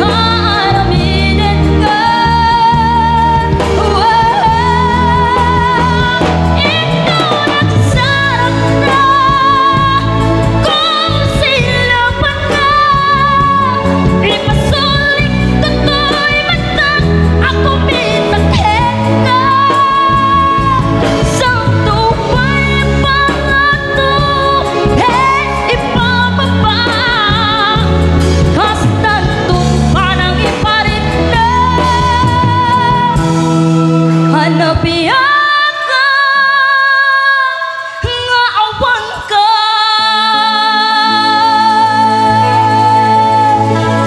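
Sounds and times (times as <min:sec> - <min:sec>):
live band playing: 0:00.0 - 0:44.0
woman singing lead: 0:00.0 - 0:44.0.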